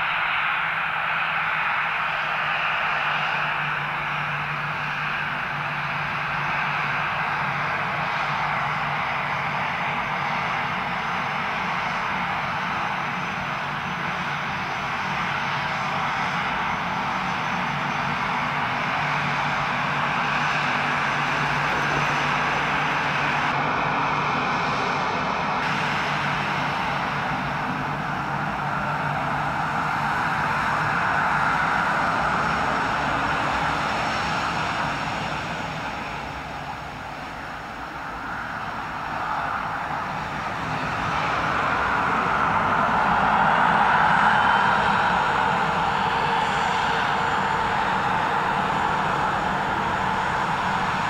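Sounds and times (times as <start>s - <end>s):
jet engines whine and rush: 0.0s - 51.0s.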